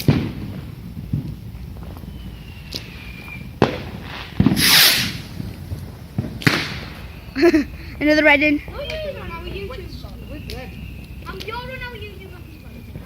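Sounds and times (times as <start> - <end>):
fireworks bangs and cracks: 0.0 - 13.0
loud rushing hiss: 0.0 - 13.0.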